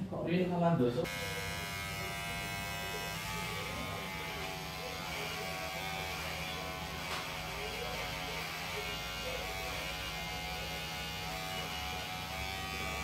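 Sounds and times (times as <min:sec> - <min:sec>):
electric hair clipper buzzing: 0:01.0 - 0:13.0.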